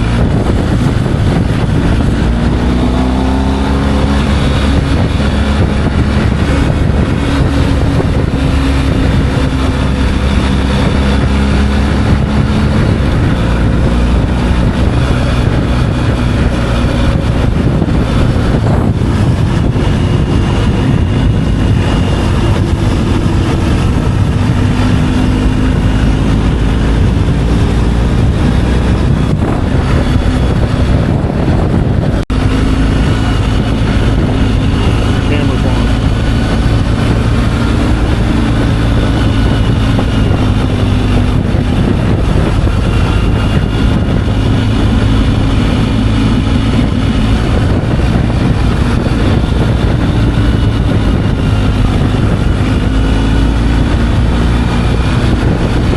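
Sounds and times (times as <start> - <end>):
motorcycle engine running: 0.0 - 55.9
wind rushing on microphone: 0.0 - 55.9.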